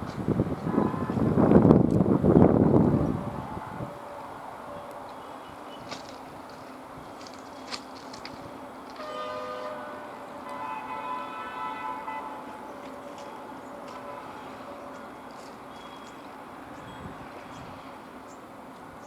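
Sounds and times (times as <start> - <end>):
distant locomotive horn blasts: 0.0 - 7.0, 8.2 - 18.4
train running noise: 0.0 - 19.0.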